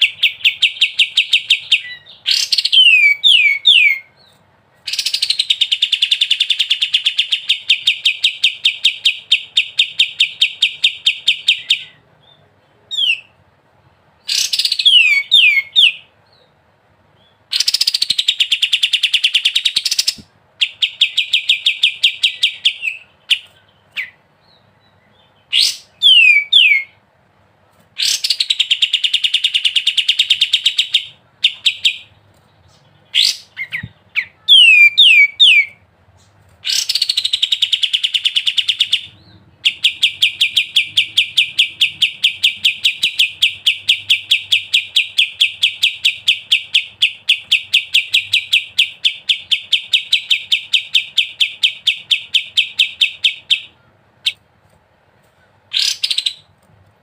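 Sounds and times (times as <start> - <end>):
songbird chattering song: 0.0 - 13.5, 14.2 - 27.0, 28.0 - 54.5, 55.3 - 56.6.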